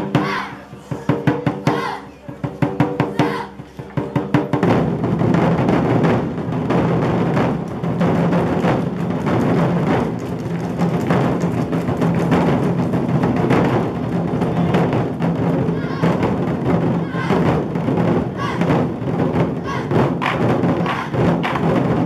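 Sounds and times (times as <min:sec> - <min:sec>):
drum roll from many drums: 0:00.0 - 0:22.0
loud drum strikes: 0:00.0 - 0:22.0.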